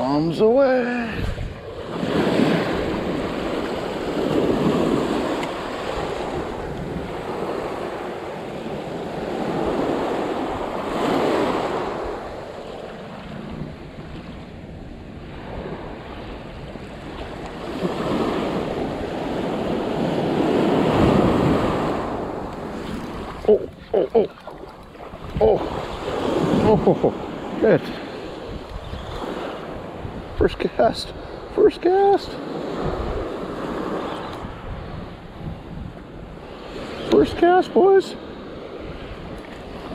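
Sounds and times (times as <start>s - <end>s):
waves breaking on beach: 0.0s - 39.9s
wind buffeting microphone: 0.9s - 37.1s.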